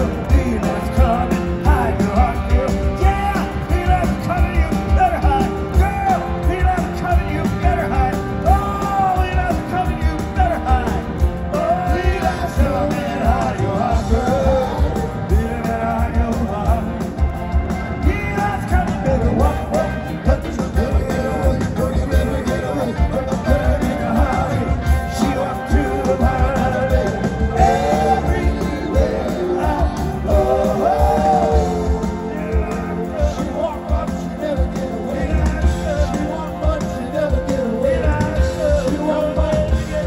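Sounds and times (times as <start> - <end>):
electric guitars: 0.0 - 40.0
lead singer singing: 0.0 - 40.0
live rock band playing: 0.0 - 40.0
organ: 0.0 - 40.0
steady drum beat: 0.0 - 40.0.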